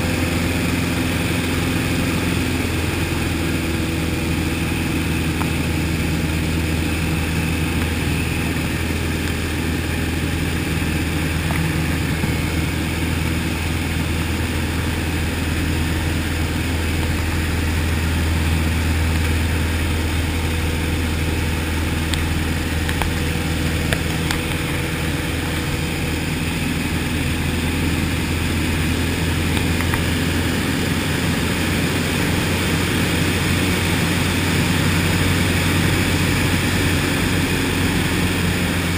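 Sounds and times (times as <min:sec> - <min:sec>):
propeller aircraft engine drone: 0:00.0 - 0:38.9.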